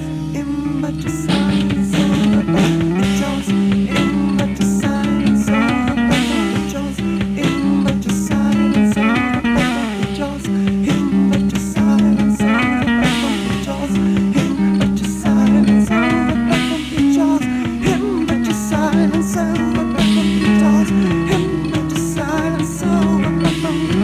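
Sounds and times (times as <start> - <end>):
guitar melody with bending notes: 0.0 - 24.0
held low tone: 0.0 - 24.0.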